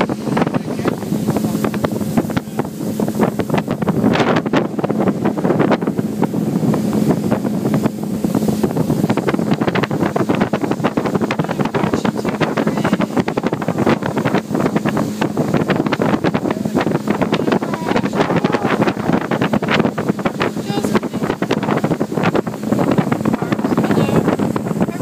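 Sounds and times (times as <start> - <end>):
rushing water: 0.0 - 25.0
speedboat engine hum: 0.0 - 25.0
wind buffeting on microphone: 0.0 - 25.0.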